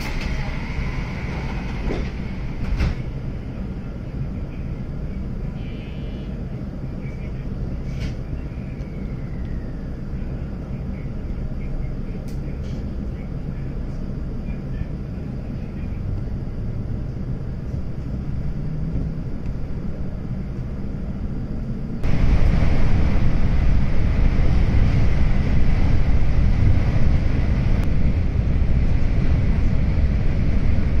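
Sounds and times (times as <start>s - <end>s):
train rumble and rail noise: 0.0s - 31.0s.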